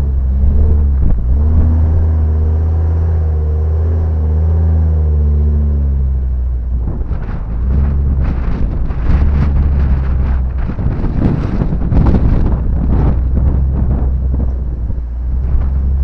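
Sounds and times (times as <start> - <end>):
van engine running under load: 0.0 - 16.0.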